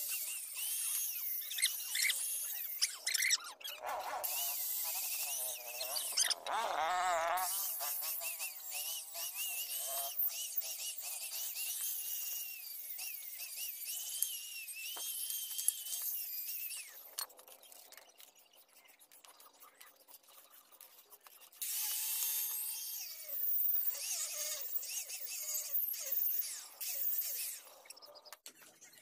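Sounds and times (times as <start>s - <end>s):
angle grinder grinding steel: 0.0s - 28.3s.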